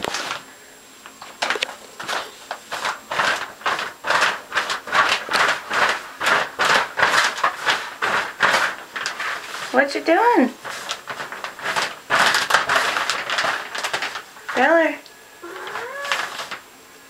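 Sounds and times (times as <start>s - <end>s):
plastic shower curtain crinkling: 0.0s - 0.5s, 1.2s - 16.6s.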